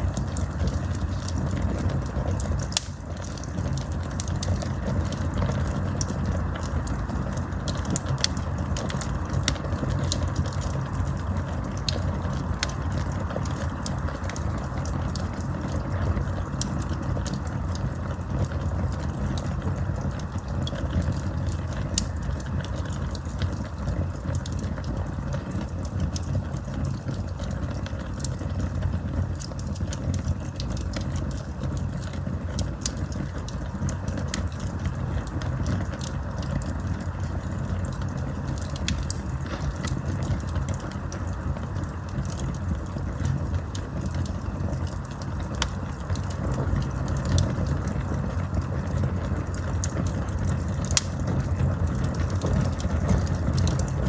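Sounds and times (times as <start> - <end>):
campfire crackles and pops: 0.0 - 54.0
low rumble of fire: 0.0 - 54.0.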